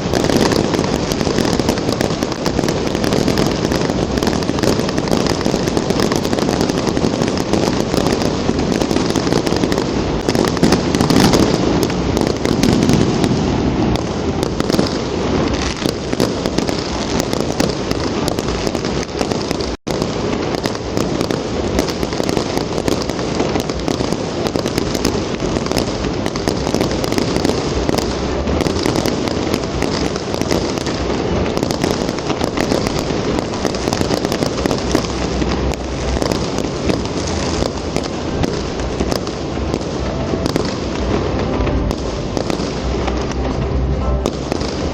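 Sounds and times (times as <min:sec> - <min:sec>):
fireworks barrage crackling: 0:00.0 - 0:44.9.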